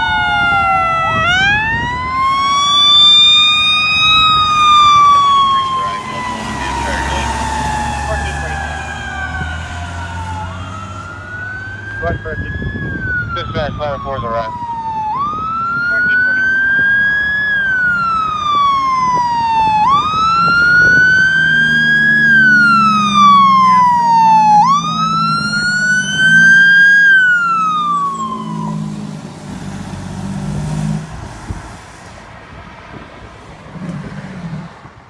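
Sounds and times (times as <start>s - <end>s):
fire truck siren wailing: 0.0s - 31.9s
truck engine passing: 0.0s - 35.0s.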